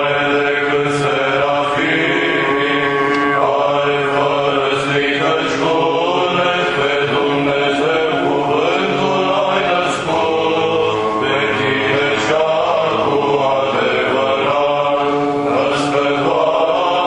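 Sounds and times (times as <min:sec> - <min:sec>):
voices singing liturgical chant: 0:00.0 - 0:17.0.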